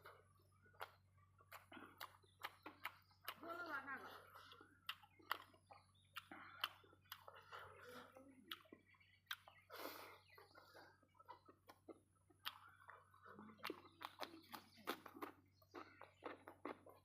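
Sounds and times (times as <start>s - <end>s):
mouth clicks and smacks: 0.0s - 3.4s, 4.4s - 7.6s, 8.5s - 17.0s
person chewing: 0.0s - 17.0s.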